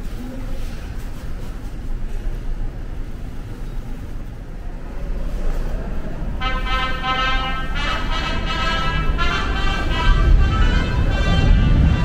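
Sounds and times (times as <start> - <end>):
low rumble in subway station: 0.0 - 12.0.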